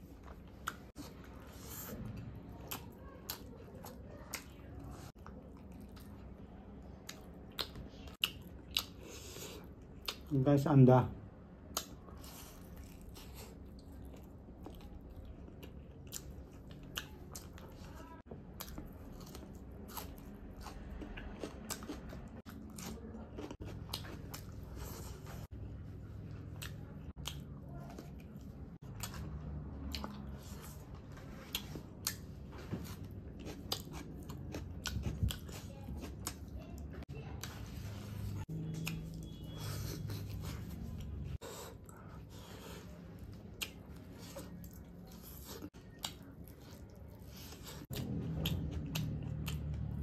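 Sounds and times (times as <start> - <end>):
person chewing food: 0.0 - 10.4, 11.5 - 50.0.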